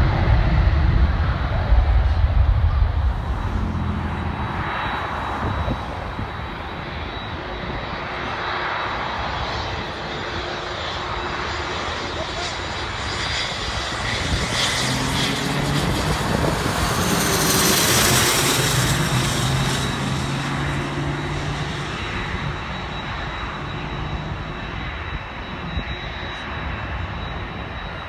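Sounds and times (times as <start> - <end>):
jet engines passing overhead: 0.0 - 28.0.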